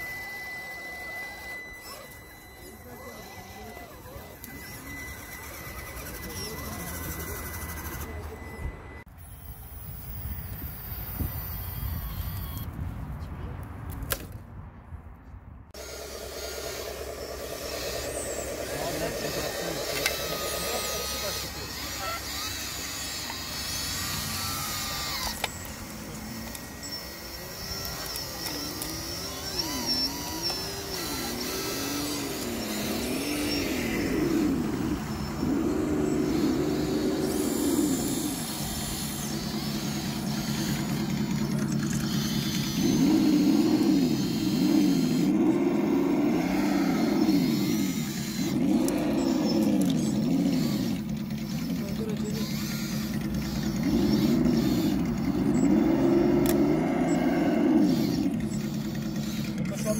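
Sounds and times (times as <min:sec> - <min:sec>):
electric motor whining: 0:00.0 - 0:12.8, 0:15.8 - 0:59.9.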